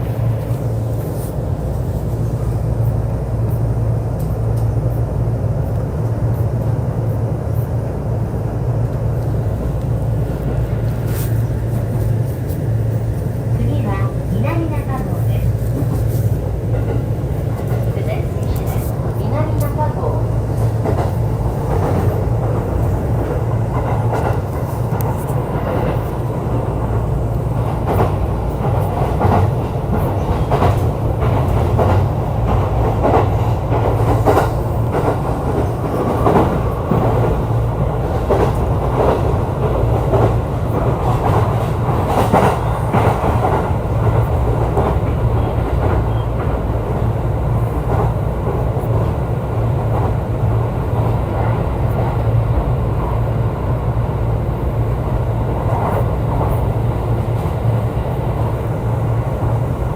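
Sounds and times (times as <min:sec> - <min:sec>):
rail joint clicks: 0:00.0 - 0:59.9
train wheels rumbling on rail: 0:00.0 - 0:59.9.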